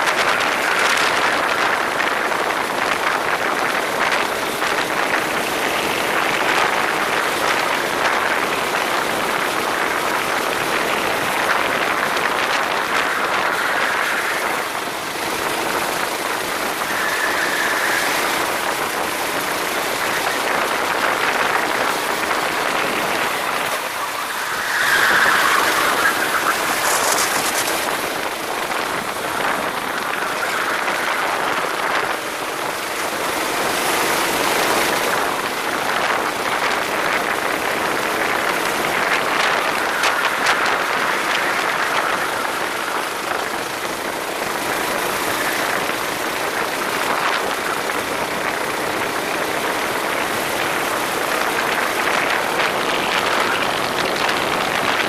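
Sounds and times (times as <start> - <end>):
go-kart rushing noise: 0.0 - 55.0.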